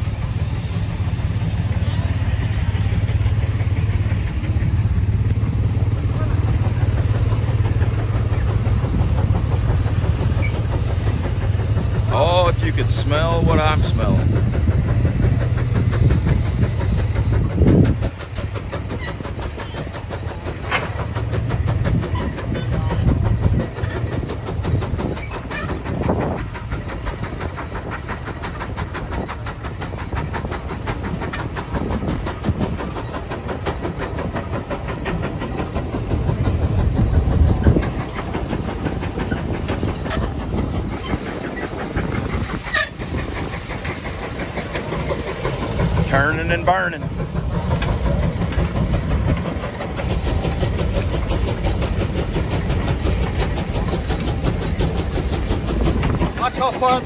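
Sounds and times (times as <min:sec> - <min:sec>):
plows rattling and rumbling: 0:00.0 - 0:57.0
steam engine exhaust chuffing: 0:00.0 - 0:57.0.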